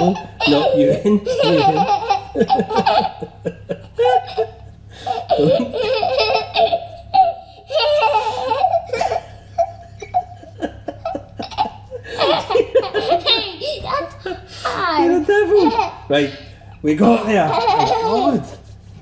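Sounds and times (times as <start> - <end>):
boy laughing: 0.0 - 16.4, 17.0 - 18.7.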